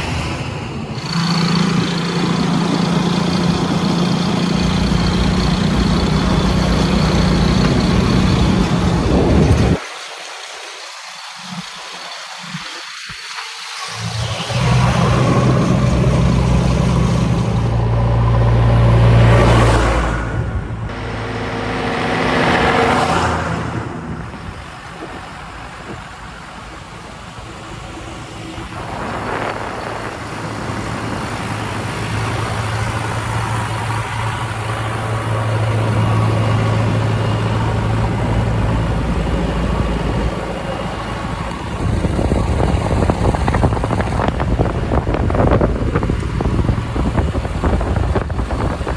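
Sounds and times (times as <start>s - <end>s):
heavy diesel engine working: 0.0s - 9.8s, 13.8s - 48.9s
rushing noise: 0.0s - 48.9s.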